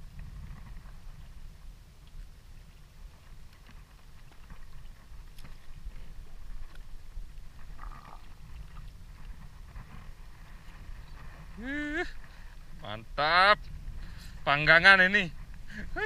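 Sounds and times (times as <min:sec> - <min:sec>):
boat engine rumble: 0:00.0 - 0:16.0.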